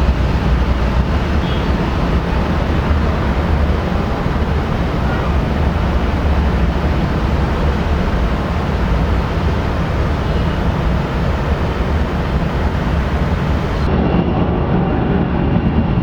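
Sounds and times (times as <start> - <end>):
aircraft engine rumble: 0.0 - 16.0.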